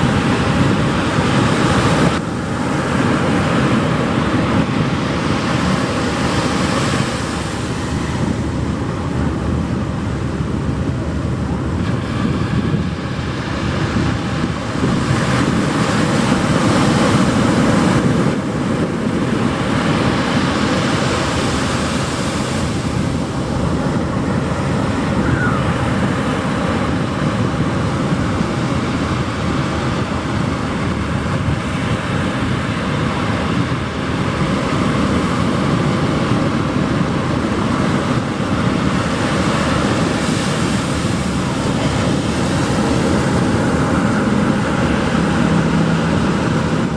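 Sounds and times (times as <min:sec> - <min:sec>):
surf breaking on a beach: 0:00.0 - 0:46.9
wind on microphone: 0:00.0 - 0:46.9.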